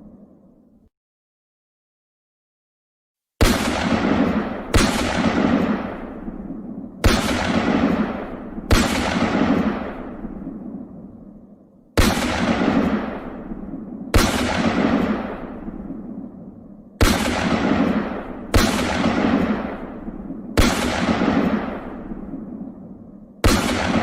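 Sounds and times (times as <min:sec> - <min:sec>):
gunshot blasts with rumble: 0:03.4 - 0:11.4, 0:12.0 - 0:24.0.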